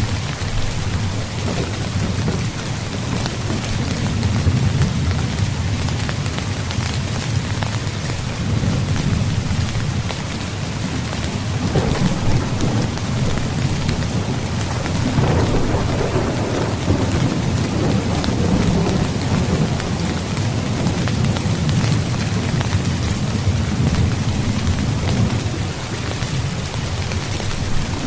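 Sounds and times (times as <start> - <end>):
rolling thunder: 0.0 - 7.5, 8.4 - 28.0
rain on tent fabric: 0.0 - 28.0.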